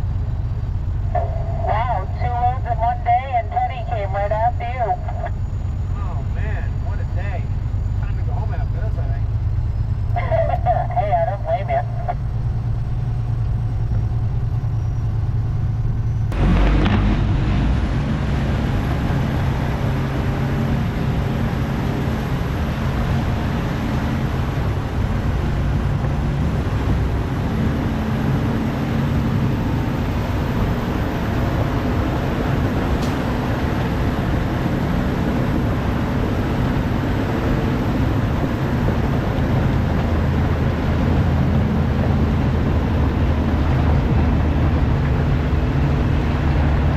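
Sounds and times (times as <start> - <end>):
diesel truck engine: 0.0 - 46.9.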